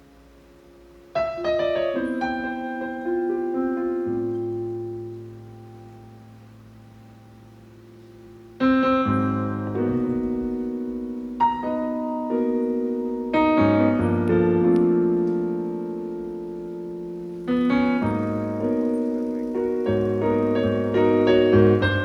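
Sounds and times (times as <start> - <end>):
piano playing slow chords: 0.0 - 22.0.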